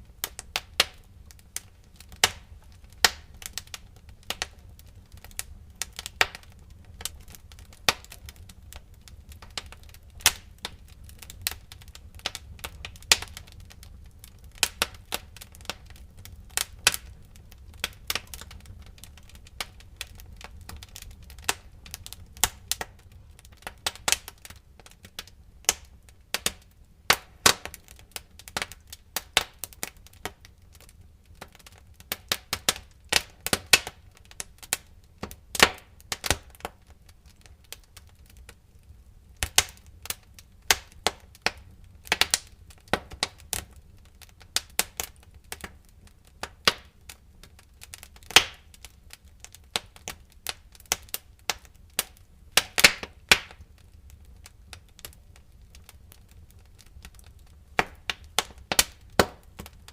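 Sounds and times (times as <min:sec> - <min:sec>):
low rumble of burning: 0:00.0 - 0:59.9
wood fire crackling and popping: 0:00.0 - 0:59.9.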